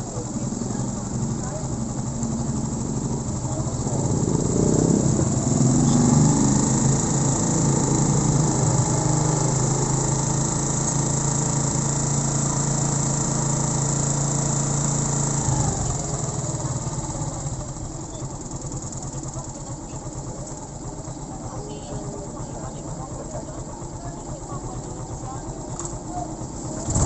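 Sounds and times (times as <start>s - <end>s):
motorcycle engine idling: 0.0s - 27.0s.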